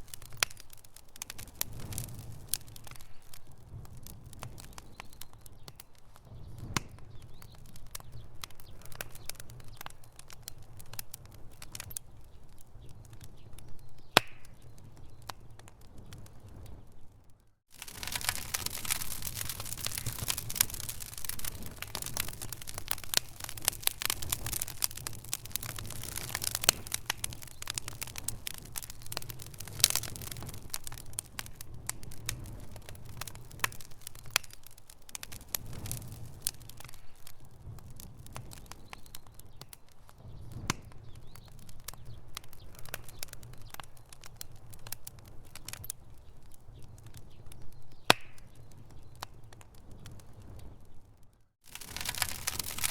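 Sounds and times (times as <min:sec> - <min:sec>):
campfire crackling and popping: 0:00.0 - 0:52.9
low fire rumble: 0:00.0 - 0:52.9.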